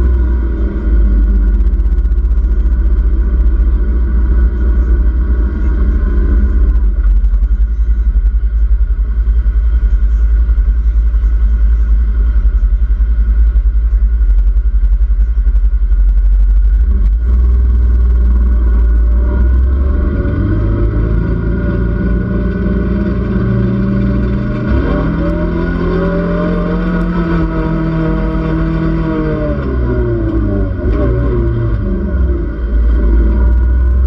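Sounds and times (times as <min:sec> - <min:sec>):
loud low rumble: 0:00.0 - 0:34.0
utility vehicle engine running: 0:00.0 - 0:34.0.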